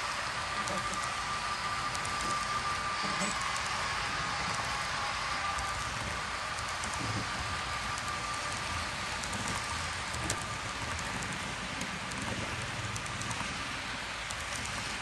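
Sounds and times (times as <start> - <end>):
model train wheels rolling: 0.0 - 15.0
thin steady whine: 0.0 - 15.0.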